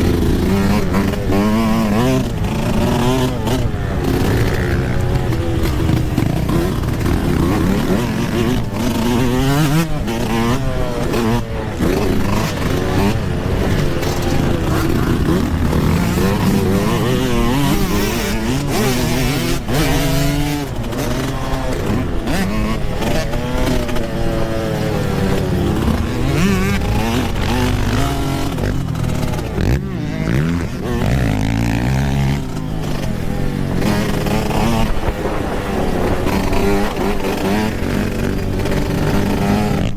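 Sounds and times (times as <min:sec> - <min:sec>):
dirt bike engine revving: 0:00.0 - 0:39.9
wind noise: 0:00.0 - 0:39.9.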